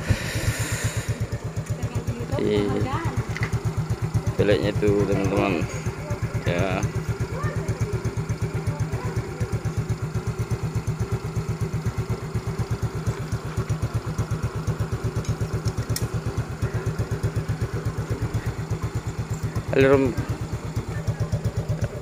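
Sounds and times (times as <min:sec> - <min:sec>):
scooter engine idling: 0:00.0 - 0:22.0.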